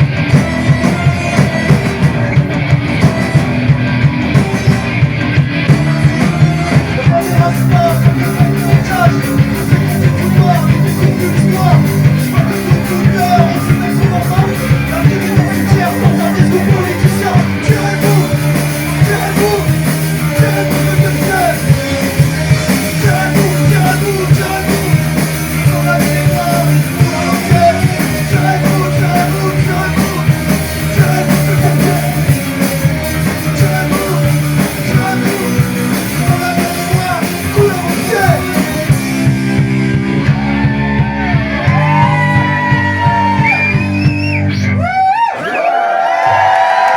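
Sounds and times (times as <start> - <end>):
live rock band playing: 0.0 - 46.9
shouted singing: 5.7 - 38.9, 40.2 - 46.9.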